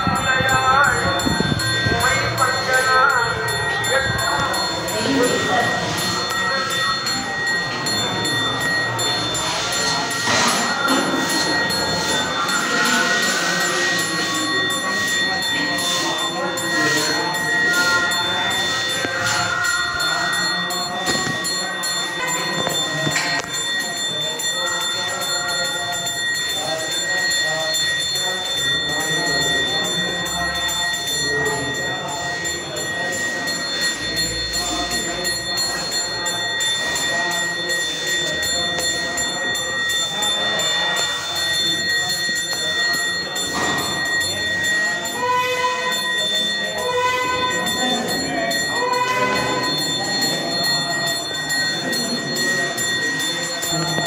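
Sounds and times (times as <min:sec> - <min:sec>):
temple bells ringing: 0:00.0 - 0:54.0
voices chanting: 0:00.0 - 0:54.0.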